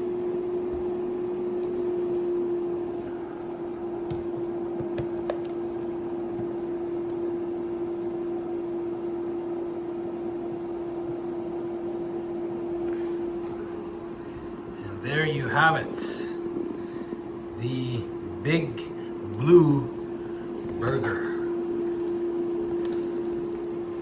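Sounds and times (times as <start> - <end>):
kitchen appliance humming: 0.0 - 24.0.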